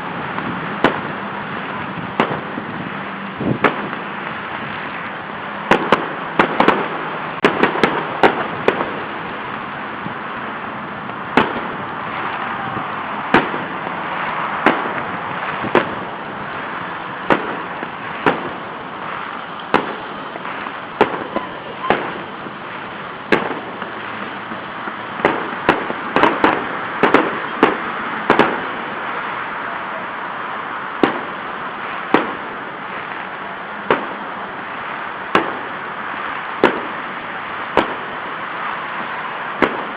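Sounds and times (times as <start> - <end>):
background hiss: 0.0 - 39.9
fireworks bangs: 0.0 - 39.9.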